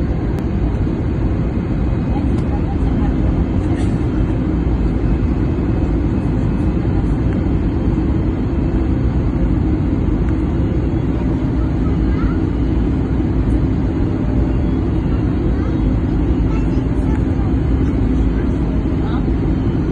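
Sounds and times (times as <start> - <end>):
jet engine and airflow roar: 0.0 - 19.9.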